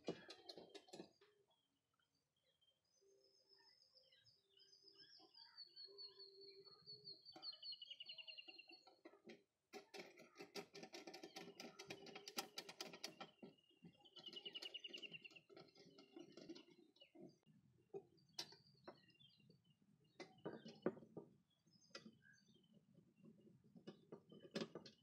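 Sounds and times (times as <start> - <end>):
faint birdsong: 0.0 - 25.0.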